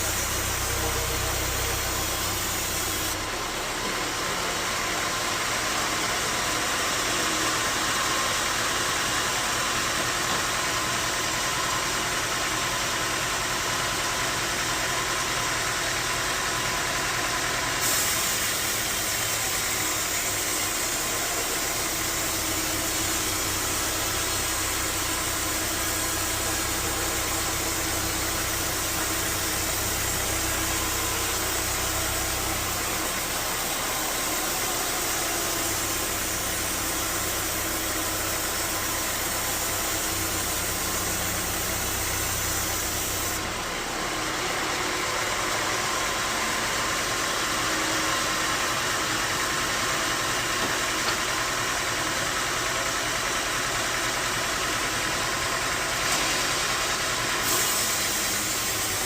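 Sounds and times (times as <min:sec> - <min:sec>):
sawmill machinery hum and hiss: 0:00.0 - 0:59.0.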